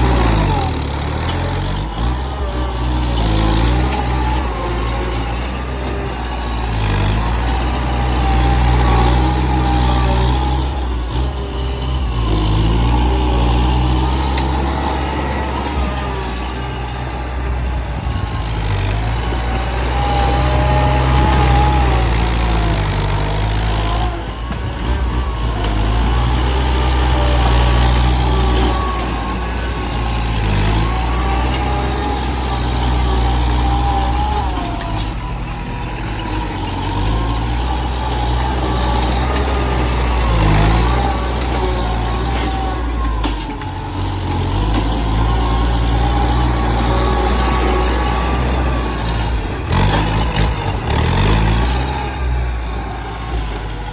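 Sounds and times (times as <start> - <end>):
heavy truck engine revving: 0.0 - 53.9.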